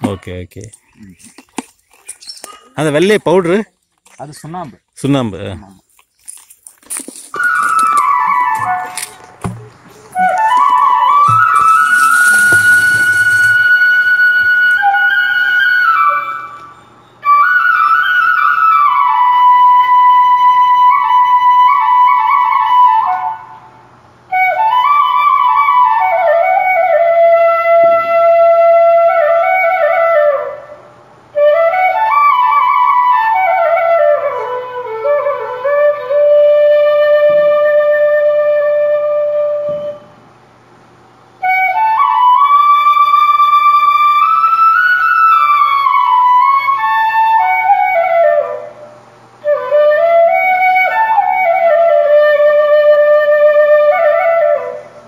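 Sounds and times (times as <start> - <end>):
solo flute melody: 7.4 - 23.7, 24.3 - 40.2, 41.4 - 55.0.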